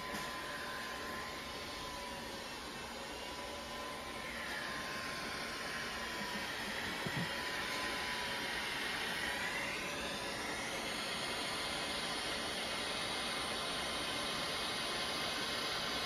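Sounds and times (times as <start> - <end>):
hot air blower with fan whine: 0.0 - 16.0.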